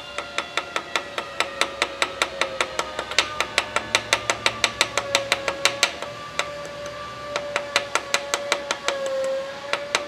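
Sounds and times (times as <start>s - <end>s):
light metallic taps on steel: 0.0s - 10.0s.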